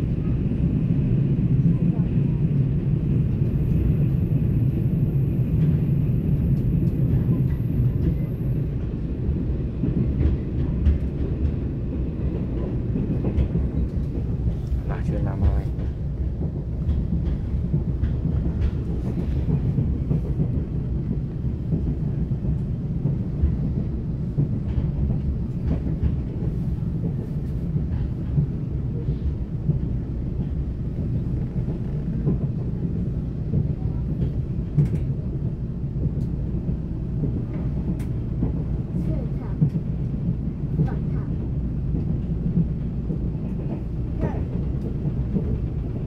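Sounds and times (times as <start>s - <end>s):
train rumbling at speed: 0.0s - 46.0s.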